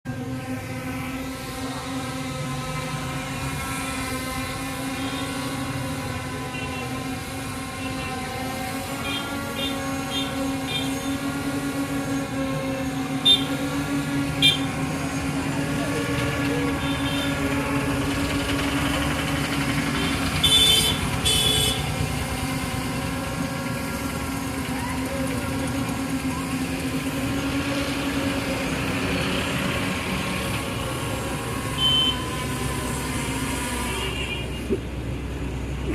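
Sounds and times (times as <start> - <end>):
airliner engines droning: 0.1 - 35.9.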